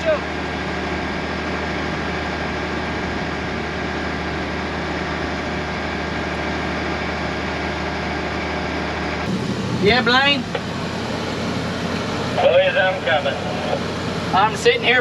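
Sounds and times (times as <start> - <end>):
combine harvester humming: 0.0 - 15.0.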